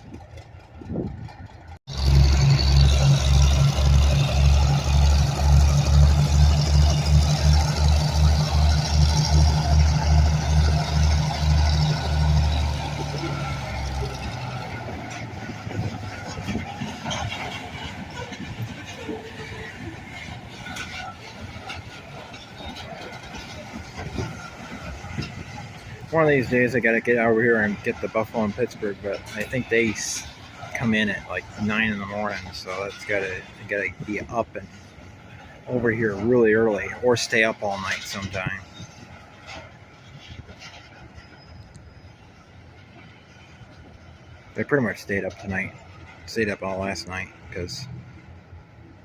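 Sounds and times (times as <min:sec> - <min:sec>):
diesel locomotive engine throbbing: 0:00.0 - 0:49.0.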